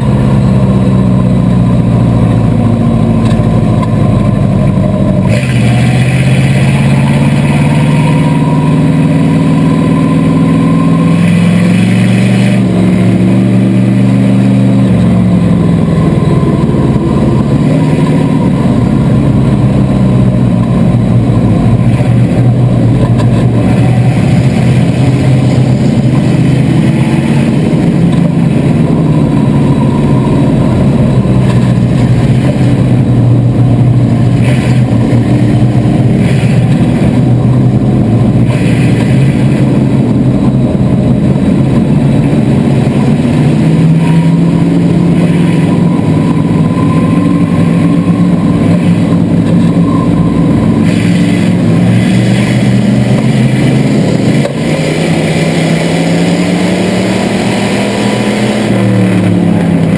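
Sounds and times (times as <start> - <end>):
car engine running at low revs: 0.0 - 59.9.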